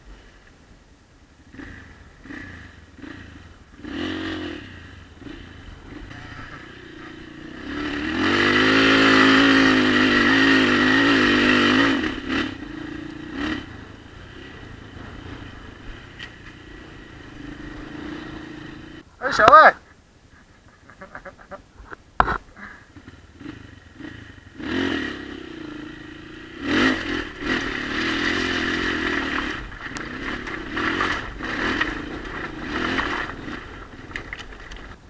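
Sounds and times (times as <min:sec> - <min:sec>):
dirt bike engine revving: 0:01.5 - 0:19.0, 0:22.6 - 0:34.6.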